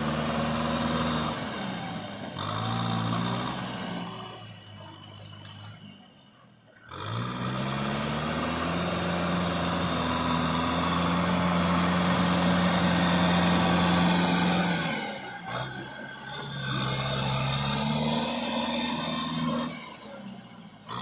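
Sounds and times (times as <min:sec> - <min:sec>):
tractor diesel engine: 0:00.0 - 0:21.0.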